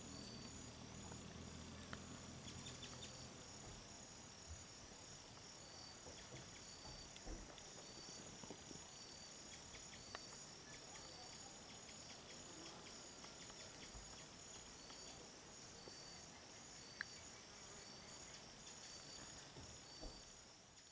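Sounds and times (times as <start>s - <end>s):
short insect chirp: 0.0s - 8.2s, 8.8s - 20.9s
insects buzzing: 0.0s - 20.9s.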